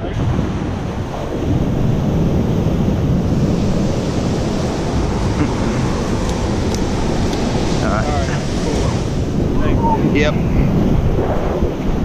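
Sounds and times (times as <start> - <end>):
surf washing on beach: 0.0 - 12.0
wind rumbling on microphone: 0.0 - 12.0.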